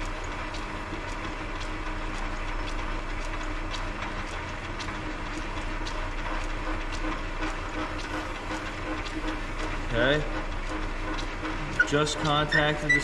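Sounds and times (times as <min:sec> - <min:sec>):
regular ticking: 0:00.0 - 0:13.0
lathe humming: 0:00.1 - 0:13.0.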